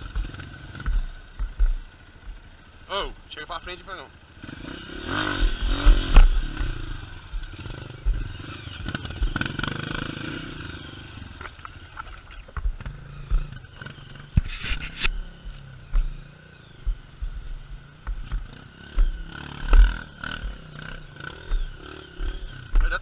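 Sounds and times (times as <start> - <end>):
vehicle engine revving: 3.5 - 23.0.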